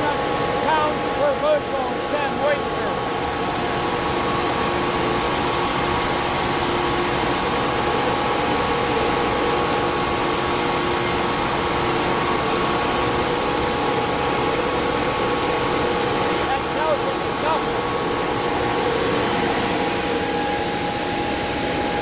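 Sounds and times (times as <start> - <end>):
machinery blower-like rush: 0.0 - 22.0
steady humming tones: 0.0 - 22.0.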